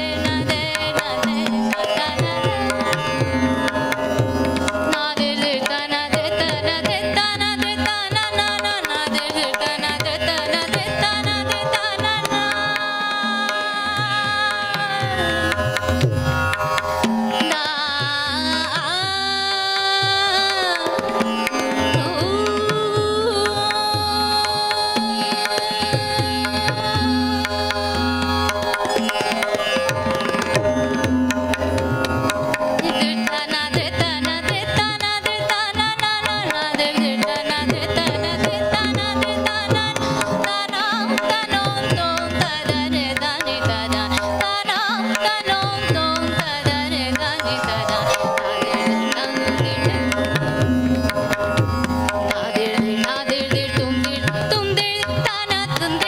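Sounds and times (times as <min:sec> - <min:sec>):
woman singing: 0:00.0 - 0:03.4, 0:04.8 - 0:15.8, 0:17.3 - 0:28.8, 0:32.8 - 0:50.6, 0:52.1 - 0:56.0
tabla: 0:00.0 - 0:56.0
tanpura drone: 0:00.0 - 0:56.0.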